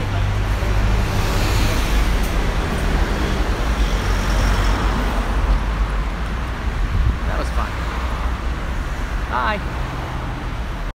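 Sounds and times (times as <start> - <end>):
low traffic rumble: 0.0 - 10.9
vehicles driving past: 0.0 - 10.9.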